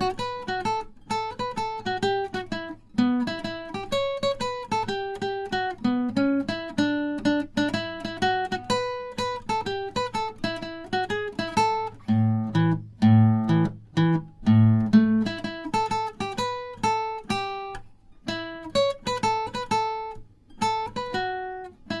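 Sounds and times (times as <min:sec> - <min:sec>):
acoustic guitar melody: 0:00.0 - 0:22.0.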